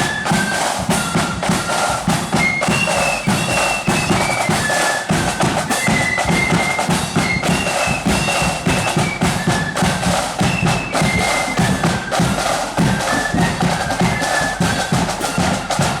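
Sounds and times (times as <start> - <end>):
high melody line: 0.0 - 16.0
marching drums with bass drum: 0.0 - 16.0.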